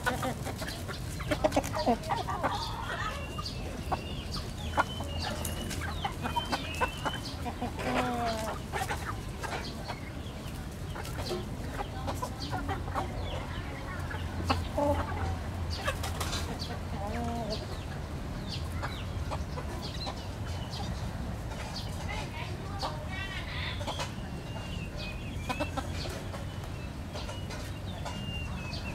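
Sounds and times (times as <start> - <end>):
chickens clucking: 0.0 - 28.9
chickens scratching dirt: 0.0 - 28.9.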